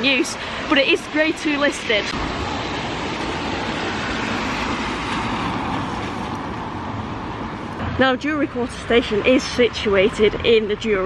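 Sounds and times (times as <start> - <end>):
traffic on wet street: 0.0 - 11.0.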